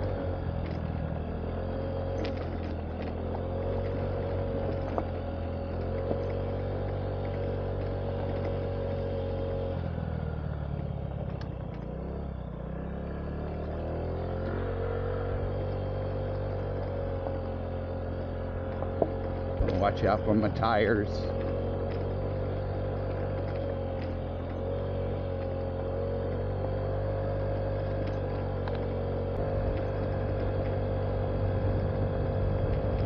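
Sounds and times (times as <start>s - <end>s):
scooter engine running: 0.0s - 33.0s.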